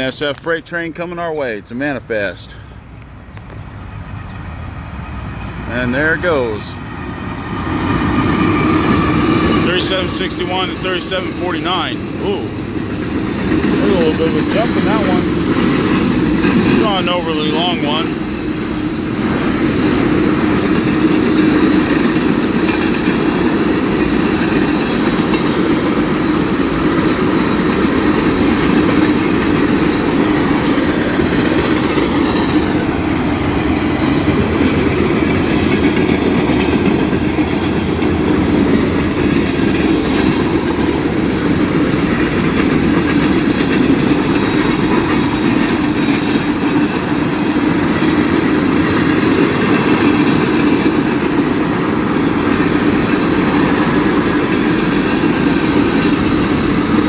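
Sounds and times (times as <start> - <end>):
freight train wheels on rail: 0.0 - 57.0.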